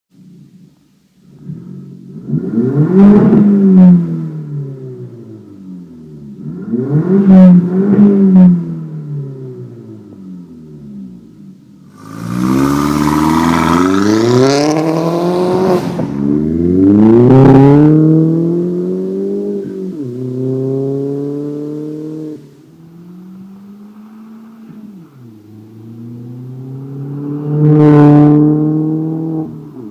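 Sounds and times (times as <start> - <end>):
car engine revving: 1.3 - 29.9.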